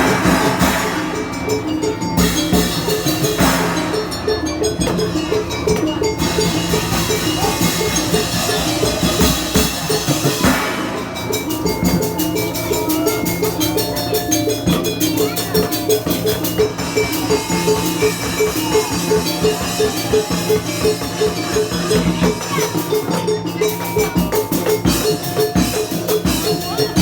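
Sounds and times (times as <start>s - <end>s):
drums: 0.0s - 27.0s
held melodic notes: 0.0s - 27.0s
ringing metal percussion: 0.0s - 27.0s.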